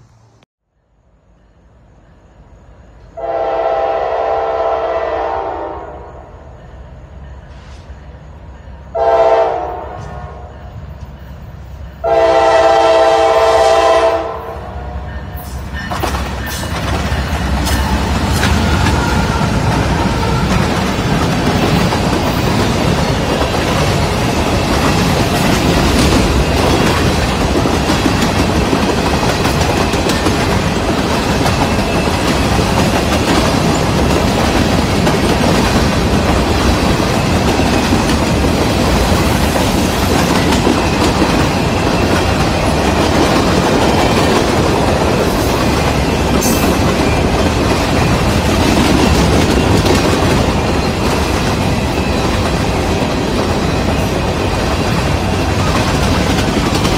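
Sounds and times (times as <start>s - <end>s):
freight train wheels rushing on rail: 1.3s - 56.9s.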